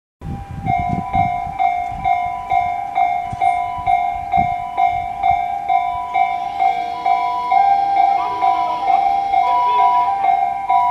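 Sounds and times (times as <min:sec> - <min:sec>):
level crossing warning bell: 0:00.2 - 0:10.9.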